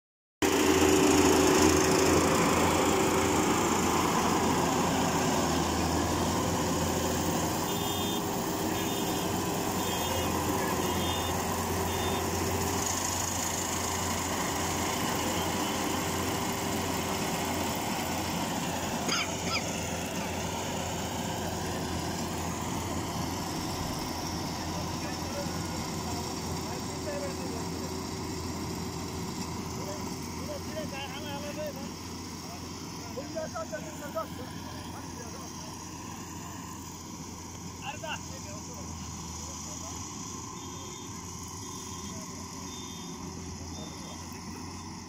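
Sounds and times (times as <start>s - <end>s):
harvester engine running: 0.4s - 45.0s.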